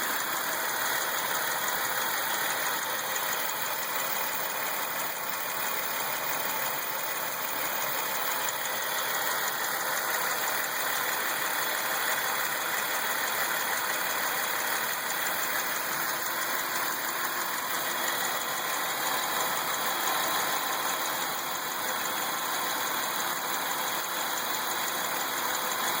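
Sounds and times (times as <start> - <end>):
engine running with ticking: 0.0 - 26.0.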